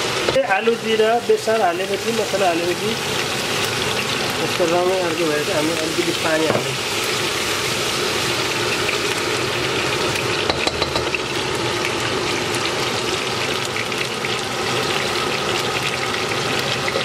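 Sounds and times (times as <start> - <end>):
potatoes sizzling in a saucepan: 0.0 - 17.0.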